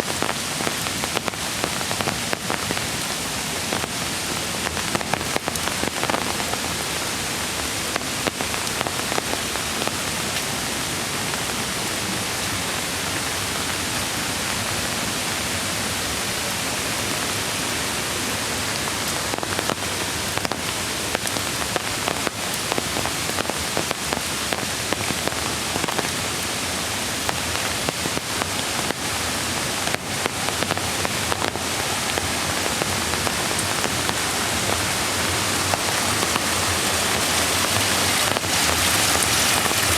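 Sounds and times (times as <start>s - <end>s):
raindrops tapping nearby: 0.0s - 13.4s, 18.6s - 39.9s
steady rain hiss: 0.0s - 39.9s.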